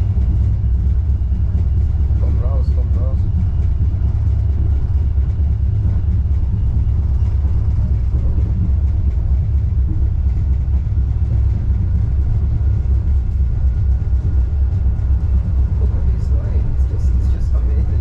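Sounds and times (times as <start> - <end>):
suspension railway car rumble: 0.0 - 18.0.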